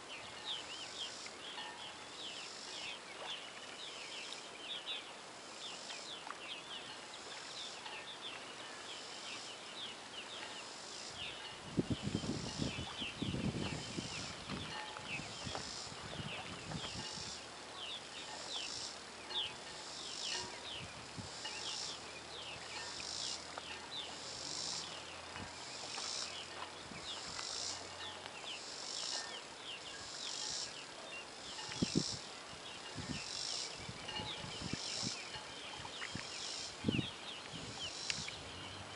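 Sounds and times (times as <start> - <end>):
insects buzzing: 0.0 - 38.9
insects chirping: 0.0 - 38.9.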